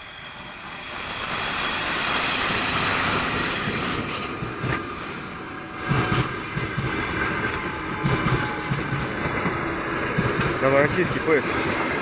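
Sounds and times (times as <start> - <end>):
train passing with rushing noise: 0.0 - 12.0.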